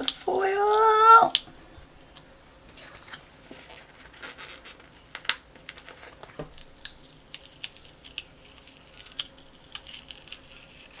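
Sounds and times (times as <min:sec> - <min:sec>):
sticker sheets crinkling: 0:00.0 - 0:01.5, 0:02.1 - 0:11.0.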